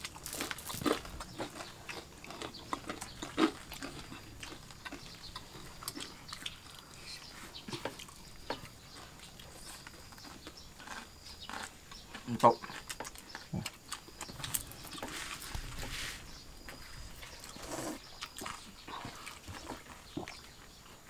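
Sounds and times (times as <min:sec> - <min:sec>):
people chewing and lip smacking: 0:00.0 - 0:21.0.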